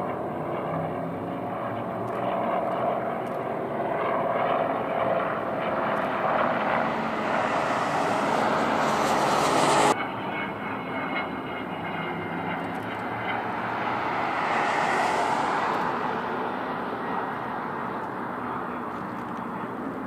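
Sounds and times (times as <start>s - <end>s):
jet engines roaring and whining: 0.0s - 20.0s
radial aircraft engine running: 0.0s - 20.0s.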